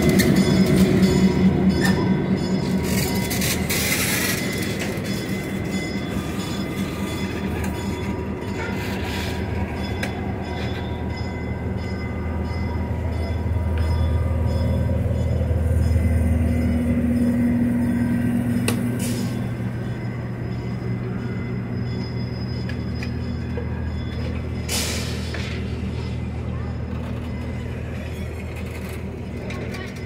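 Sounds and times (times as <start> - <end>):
train cars rolling past: 0.0 - 30.0.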